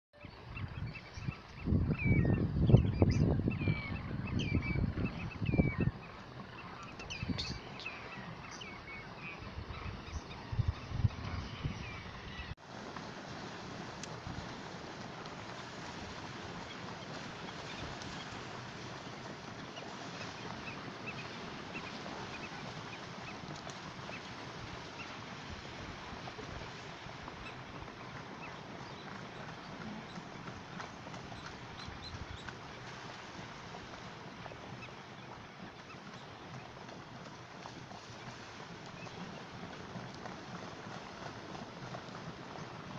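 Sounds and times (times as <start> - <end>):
water birds calling: 0.2 - 42.9
wingbeats and splashing: 0.2 - 42.9.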